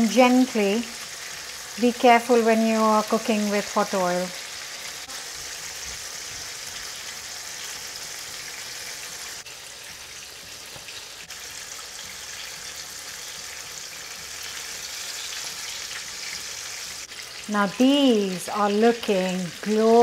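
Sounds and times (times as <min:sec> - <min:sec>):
food deep-frying in sizzling oil: 0:00.0 - 0:20.0.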